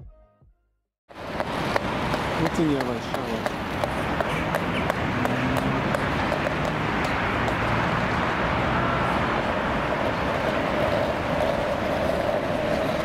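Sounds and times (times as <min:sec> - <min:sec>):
cars passing: 0:01.1 - 0:13.0.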